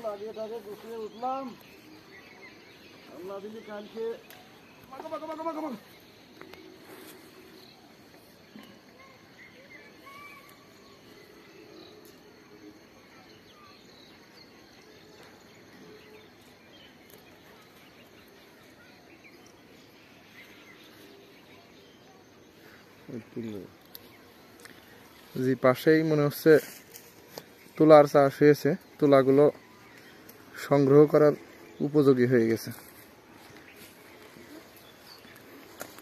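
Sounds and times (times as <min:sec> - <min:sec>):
bird chirps: 0:00.0 - 0:36.0.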